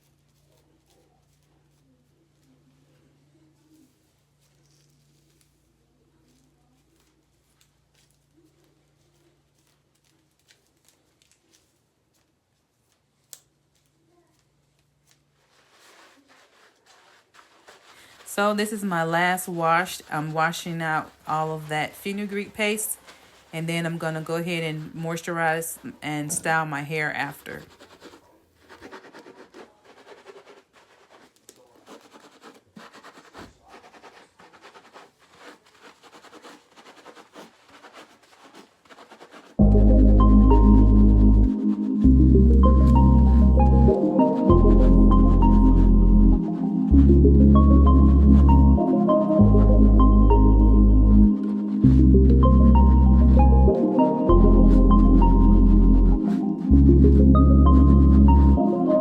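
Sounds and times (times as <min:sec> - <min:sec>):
hands rubbing wet hair: 0:00.0 - 0:59.0.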